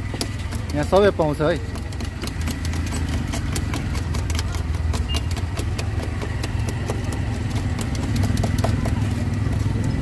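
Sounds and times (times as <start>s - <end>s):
knife chopping on a board: 0.0s - 10.0s.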